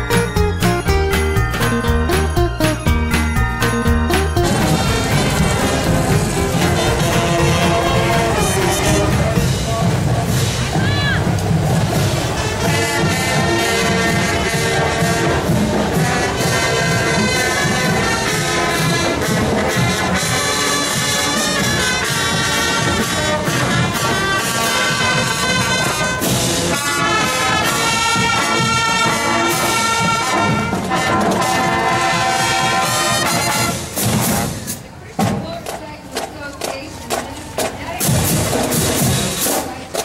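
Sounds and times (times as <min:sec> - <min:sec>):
marching brass band playing: 0:00.0 - 0:35.5, 0:38.0 - 0:39.8.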